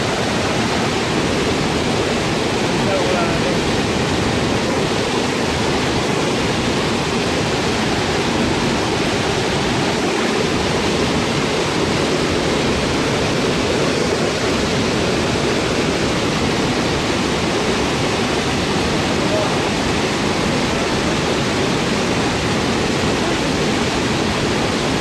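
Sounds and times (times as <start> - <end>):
whitewater rushing over boulders: 0.0 - 25.0.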